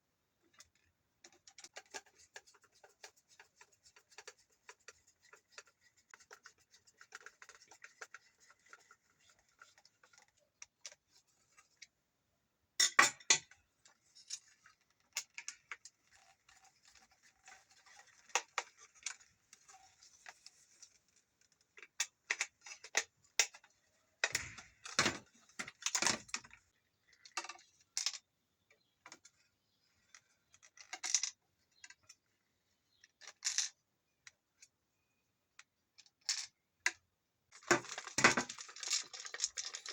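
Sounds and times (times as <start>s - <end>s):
plastic parts clicking and rubbing: 0.4s - 12.0s, 13.4s - 28.2s, 32.9s - 34.7s, 35.6s - 39.9s.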